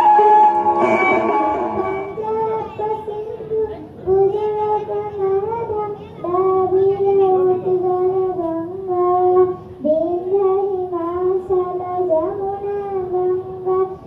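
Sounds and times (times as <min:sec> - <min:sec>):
girl singing into a microphone: 0:00.0 - 0:14.0.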